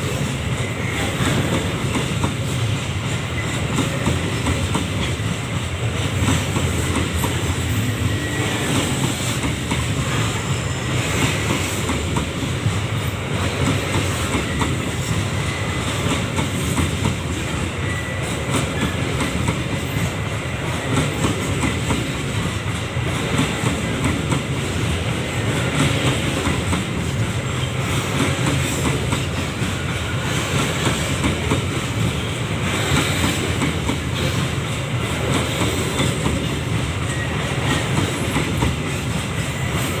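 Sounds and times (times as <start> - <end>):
train wagons rumbling past: 0.0 - 40.0
wheels clicking on rails: 0.0 - 40.0.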